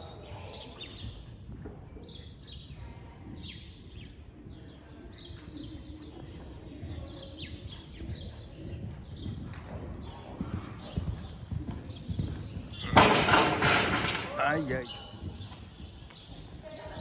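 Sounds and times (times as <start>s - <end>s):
small birds chirping: 0.2s - 13.0s, 14.3s - 17.0s.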